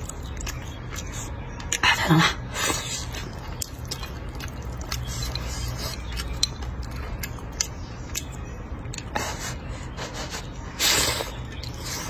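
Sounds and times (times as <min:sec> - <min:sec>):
person chewing and lip smacking: 0:00.0 - 0:12.0.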